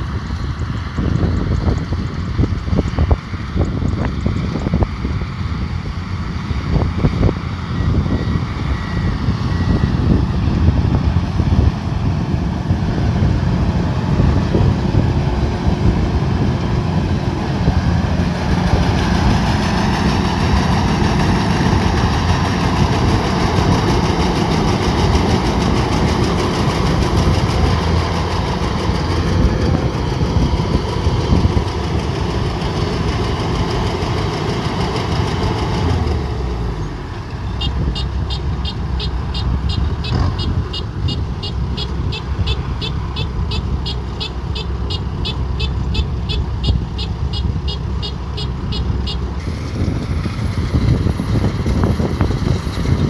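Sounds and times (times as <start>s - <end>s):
combine harvester engine droning: 0.0s - 53.0s.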